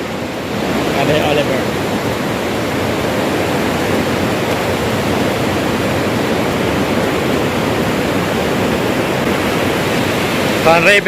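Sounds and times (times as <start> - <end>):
floodwater rushing in river: 0.0 - 11.0.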